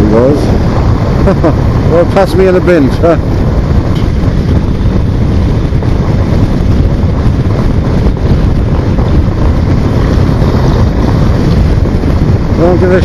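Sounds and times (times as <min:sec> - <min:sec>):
motorcycle engine rumble: 0:00.0 - 0:13.0
road rumble: 0:00.0 - 0:13.0
wind buffeting microphone: 0:00.0 - 0:13.0.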